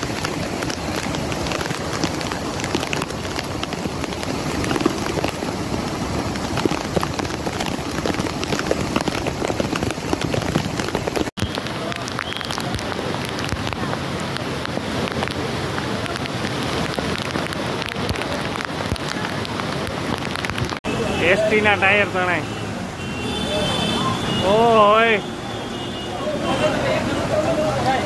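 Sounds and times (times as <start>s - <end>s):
floodwater rushing: 0.0s - 28.0s
heavy rain pouring: 0.0s - 28.0s.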